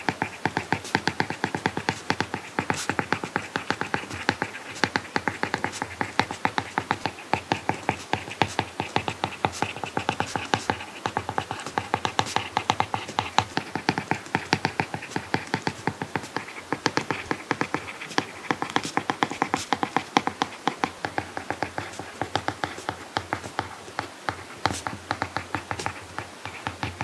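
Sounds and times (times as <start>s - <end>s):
stylus tapping on tablet screen: 0.0s - 27.0s.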